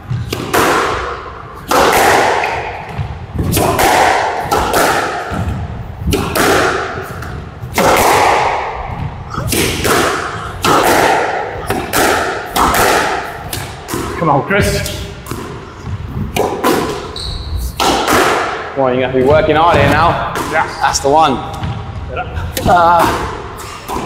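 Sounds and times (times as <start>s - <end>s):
squash ball hitting rackets and walls: 0.0s - 24.0s.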